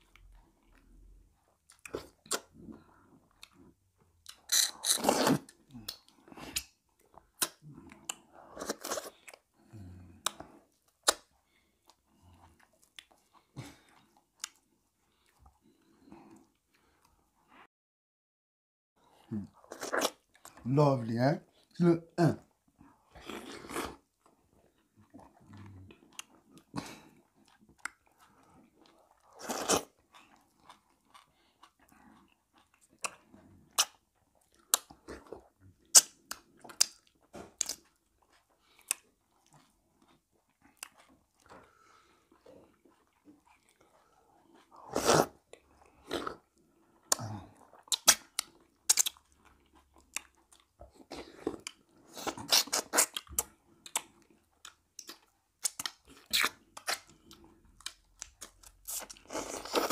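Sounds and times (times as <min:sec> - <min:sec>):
chewing with crunches: 0:00.0 - 0:17.6, 0:19.0 - 0:20.7, 0:22.4 - 0:59.9.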